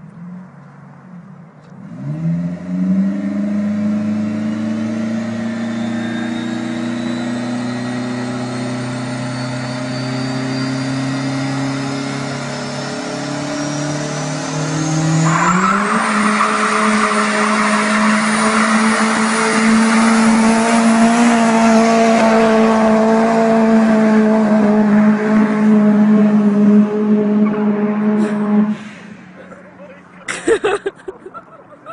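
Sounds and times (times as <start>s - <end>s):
car engine revving: 0.0s - 30.4s.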